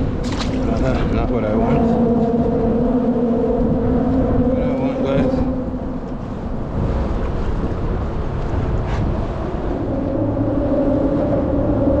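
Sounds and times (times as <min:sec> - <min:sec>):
choppy water: 0:00.0 - 0:12.0
steady low hum: 0:00.0 - 0:12.0
wind rumbling on microphone: 0:00.0 - 0:12.0.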